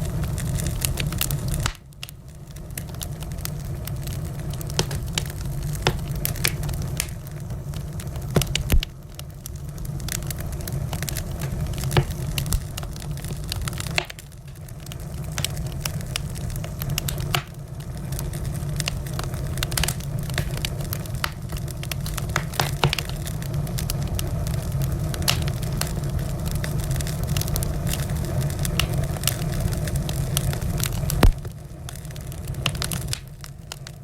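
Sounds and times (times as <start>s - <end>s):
low rumble of burning: 0.0s - 34.0s
wood fire crackling and popping: 0.0s - 34.0s.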